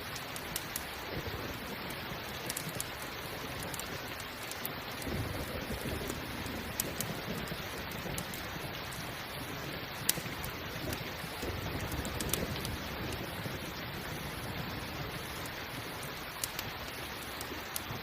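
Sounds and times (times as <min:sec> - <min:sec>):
campfire crackling and popping: 0:00.0 - 0:18.0
steady rain falling: 0:00.0 - 0:18.0
distant thunder rumble: 0:00.4 - 0:18.0.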